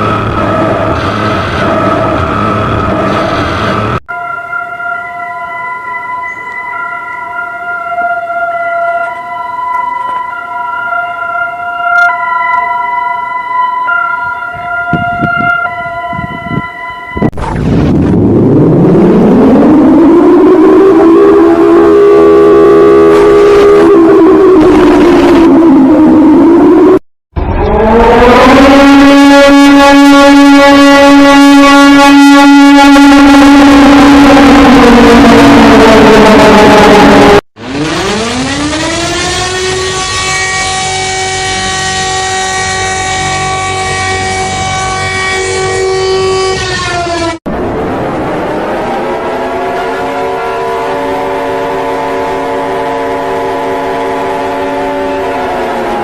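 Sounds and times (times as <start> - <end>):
air-raid siren wailing: 0.0 - 56.0.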